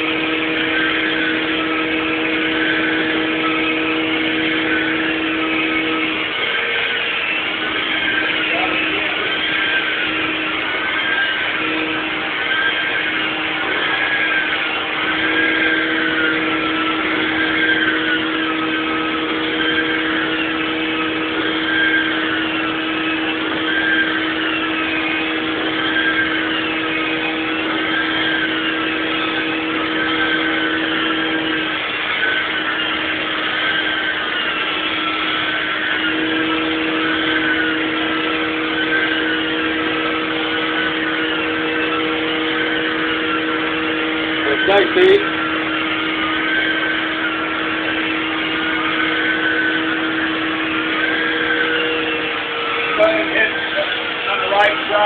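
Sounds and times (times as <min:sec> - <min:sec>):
extraction machine high whine: 0:00.0 - 0:55.0
low hum: 0:00.0 - 0:55.0.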